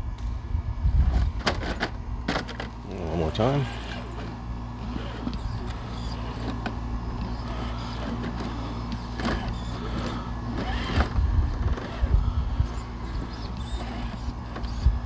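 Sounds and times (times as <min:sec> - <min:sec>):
electric motor whining: 0:00.8 - 0:15.0.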